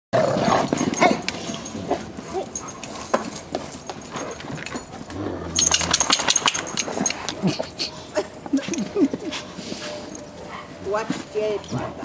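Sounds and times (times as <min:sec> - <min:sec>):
dogs scuffling on grass: 0:00.2 - 0:12.0.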